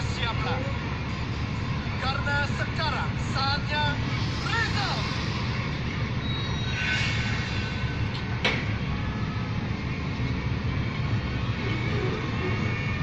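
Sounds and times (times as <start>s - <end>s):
drilling rig engine rumbling: 0.0s - 13.0s.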